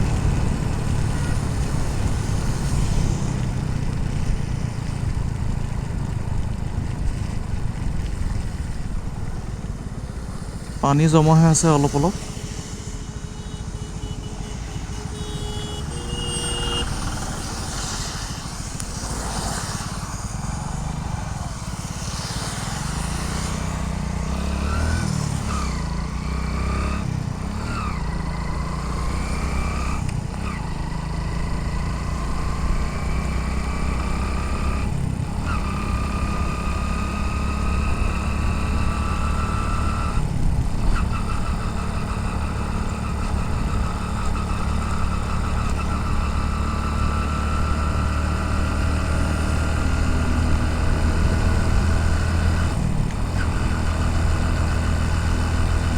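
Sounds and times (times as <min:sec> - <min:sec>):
motorcycle engine whine: 0:00.0 - 0:55.9
road noise: 0:00.0 - 0:55.9.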